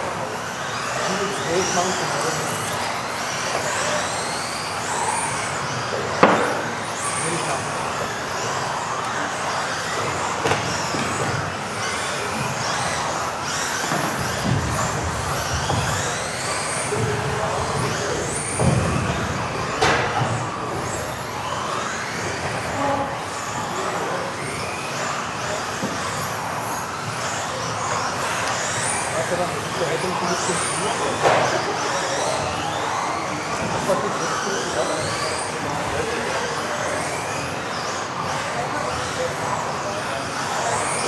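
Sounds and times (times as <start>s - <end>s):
toy car motors whining: 0.0s - 41.0s.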